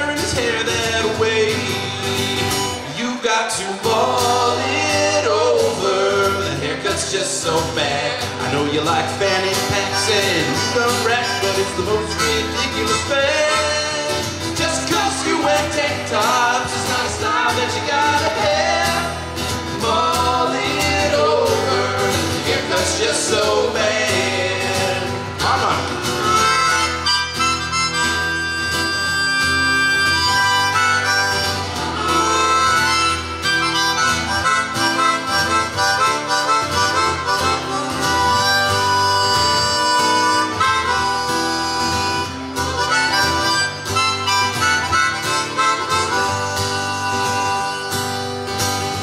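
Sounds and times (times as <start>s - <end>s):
strummed acoustic guitar: 0.0s - 49.0s
harmonica solo: 9.3s - 49.0s.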